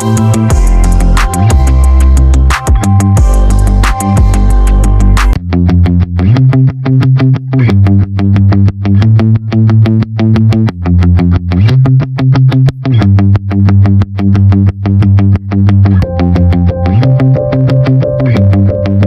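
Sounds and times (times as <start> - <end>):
electric guitar and synthesizer music: 0.0 - 19.0.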